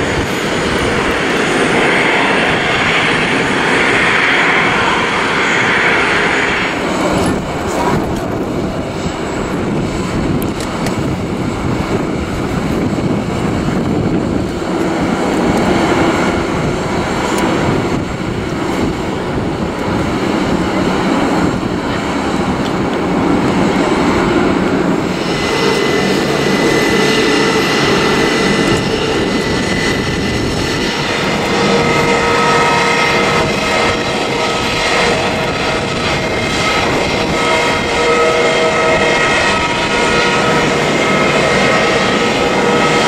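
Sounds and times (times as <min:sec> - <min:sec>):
high whine: 0:00.0 - 0:43.0
jet engines idling: 0:00.0 - 0:43.0.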